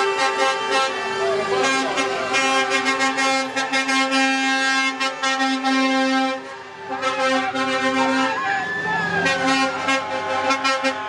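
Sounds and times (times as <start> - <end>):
vehicle horns blaring: 0.0 - 8.4, 9.2 - 11.0.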